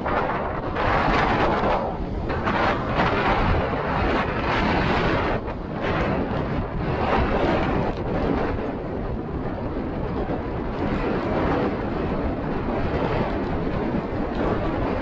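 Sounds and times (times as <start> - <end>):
rain: 0.0 - 15.0
wind rushing on microphone: 0.0 - 15.0.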